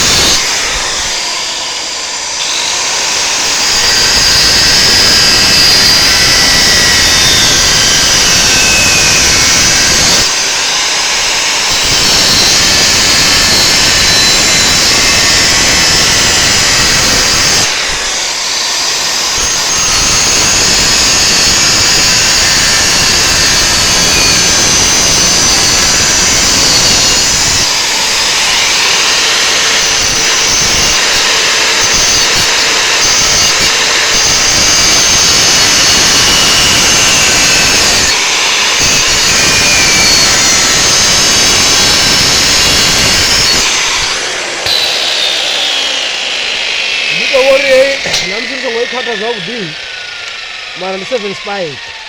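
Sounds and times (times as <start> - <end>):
angle grinder grinding steel: 0.0 - 52.0.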